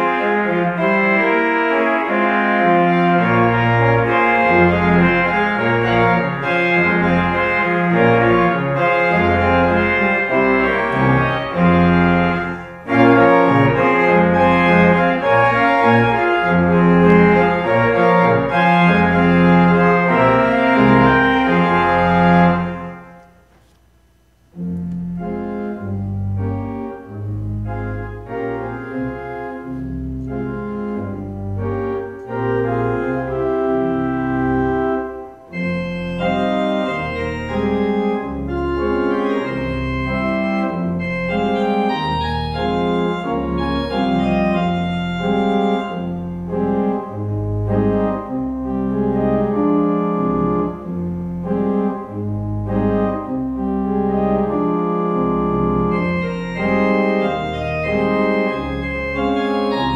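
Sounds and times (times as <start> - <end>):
organ playing slow chords: 0.0 - 59.9.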